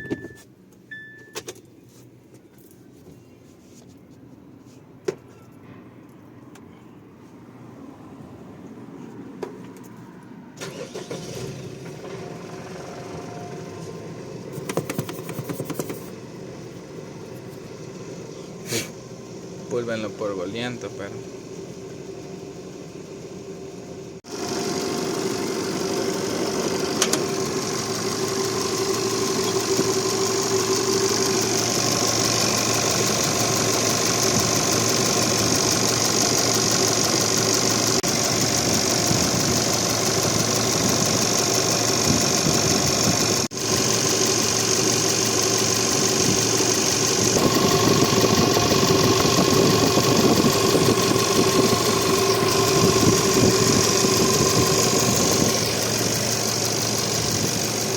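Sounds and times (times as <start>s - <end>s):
diesel engine idling: 10.6s - 57.9s.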